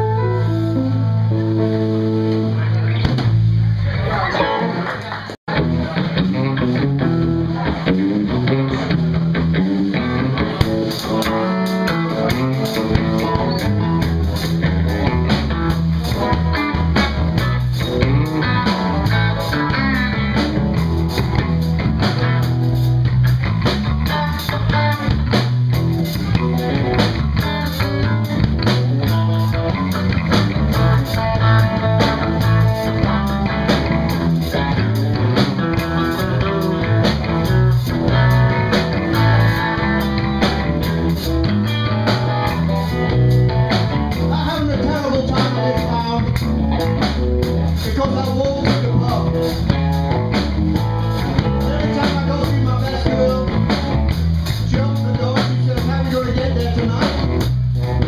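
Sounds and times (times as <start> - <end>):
drum kit with cymbals: 0.0 - 4.0, 5.6 - 58.0
bass guitar line: 0.0 - 58.0
electric guitar: 0.0 - 58.0.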